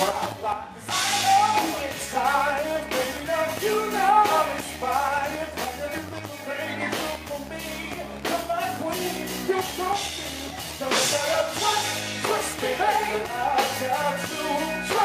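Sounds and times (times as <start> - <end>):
live band music: 0.0 - 15.0
man singing into a microphone: 0.0 - 15.0
steady low bass line: 0.0 - 15.0.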